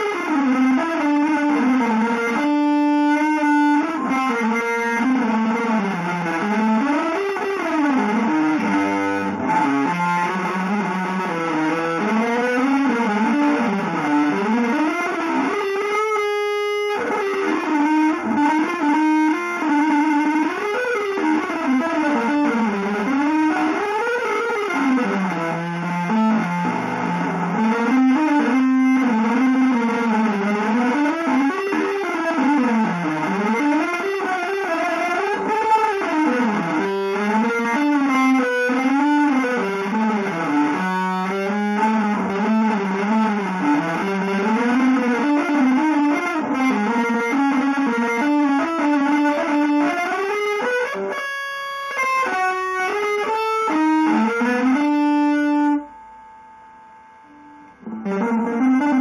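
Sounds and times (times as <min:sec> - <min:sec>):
distorted electric guitar gliding: 0:00.0 - 0:59.0.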